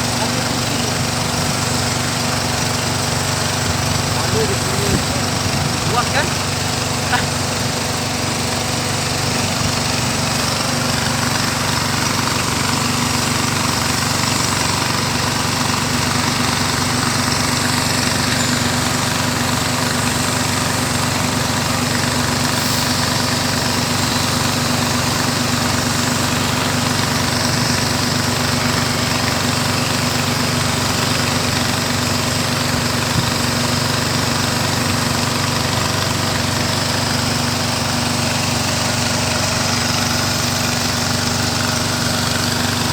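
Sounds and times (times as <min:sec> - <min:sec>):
small boat engine running: 0:00.0 - 0:42.9.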